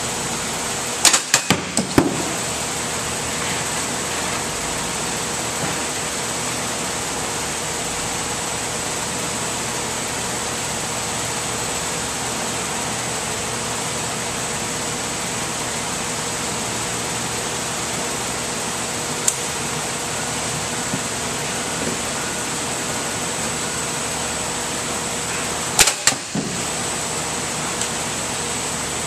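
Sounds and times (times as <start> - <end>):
machinery hum and hiss: 0.0 - 29.0.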